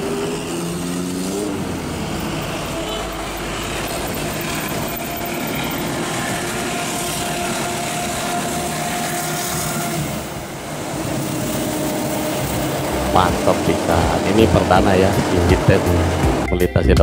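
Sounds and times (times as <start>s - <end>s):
train coaches rolling on rails: 0.0s - 16.5s
diesel locomotive engine hum: 0.0s - 17.0s.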